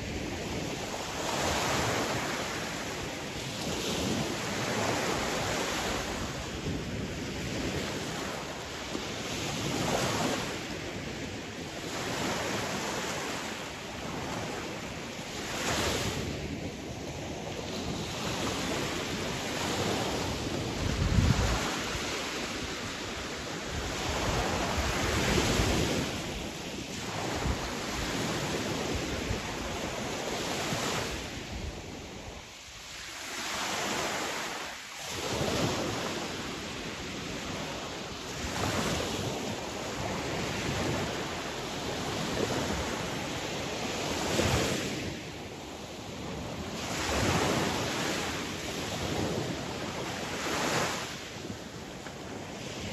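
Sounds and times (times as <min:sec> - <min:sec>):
sea waves breaking on shore: 0:00.0 - 0:52.9
wind noise on microphone: 0:00.0 - 0:52.9.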